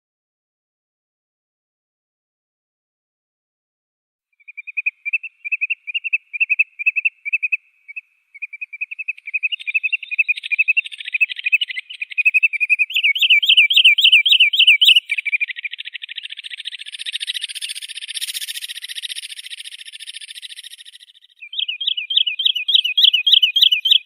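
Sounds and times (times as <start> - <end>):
sandpiper calling and trilling: 4.4 - 24.0.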